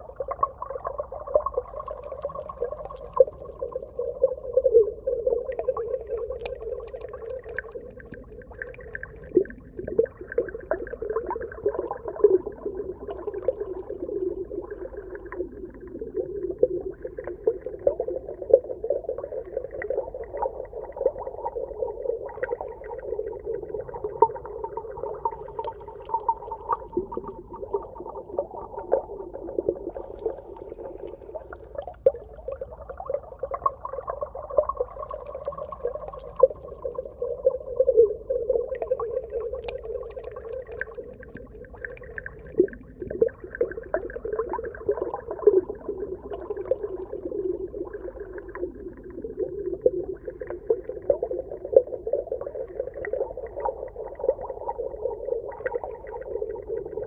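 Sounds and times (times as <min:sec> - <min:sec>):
wavering moan-like underwater tone: 0:00.0 - 0:57.0
underwater clicks and crackles: 0:00.1 - 0:57.0.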